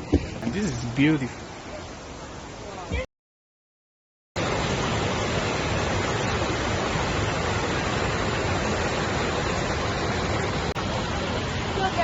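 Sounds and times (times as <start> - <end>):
waterfall roaring: 0.0 - 3.1, 4.4 - 12.0.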